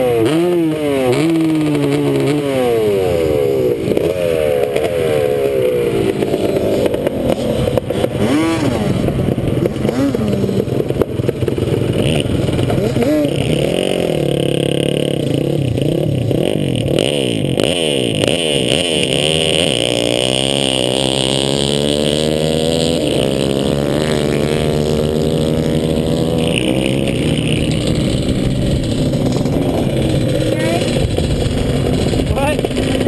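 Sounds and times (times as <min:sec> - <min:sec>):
two-stroke engine revving: 0:00.0 - 0:33.0.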